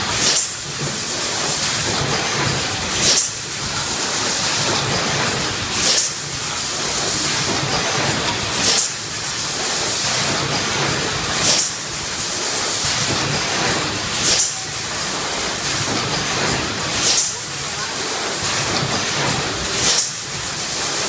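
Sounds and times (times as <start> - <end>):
machine mechanical din: 0.0 - 21.0.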